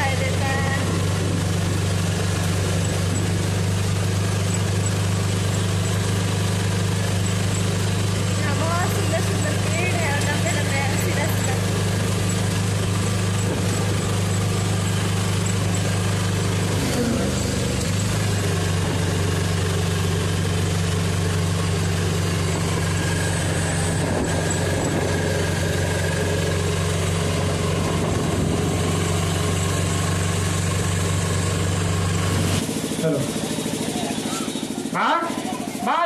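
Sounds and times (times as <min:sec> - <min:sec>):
road and wind rush: 0:00.0 - 0:35.0
vehicle engine running: 0:00.0 - 0:36.0.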